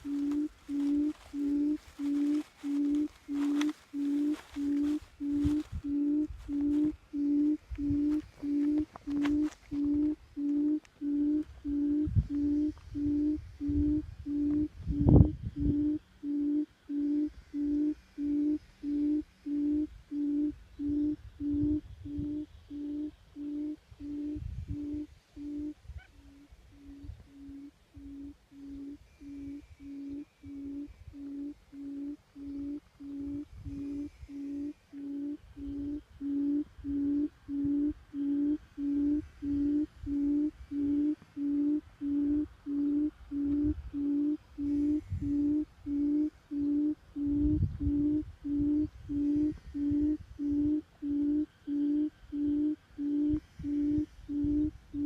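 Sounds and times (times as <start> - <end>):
quail hooting: 0.0 - 55.0.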